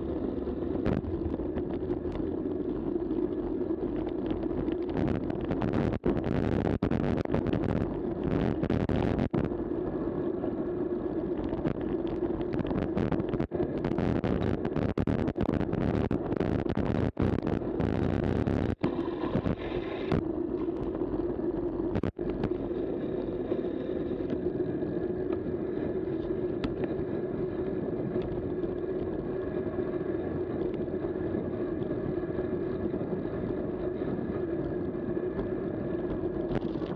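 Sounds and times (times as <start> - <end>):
bike road and wind noise: 0.0 - 36.9
steady low hum: 0.0 - 36.9.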